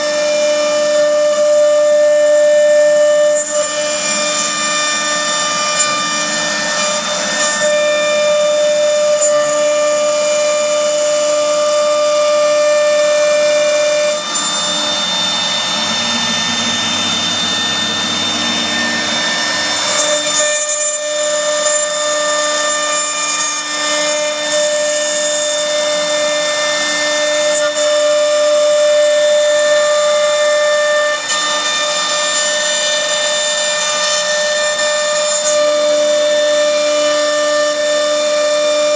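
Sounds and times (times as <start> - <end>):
router spindle high whine: 0.0 - 38.9.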